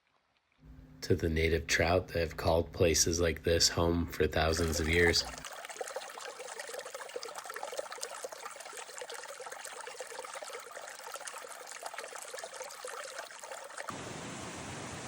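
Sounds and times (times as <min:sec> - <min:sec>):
creek water trickling: 0:00.0 - 0:00.8, 0:01.7 - 0:15.0.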